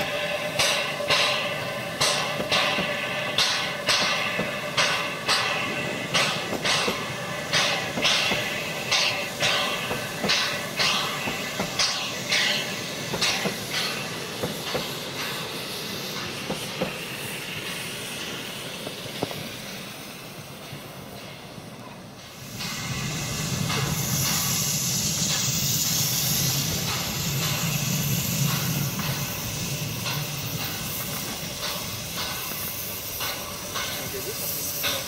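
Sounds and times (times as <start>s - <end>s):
low rumble of train: 0.0s - 35.0s
steam hiss: 0.0s - 35.0s
train coaches rolling: 0.0s - 35.0s.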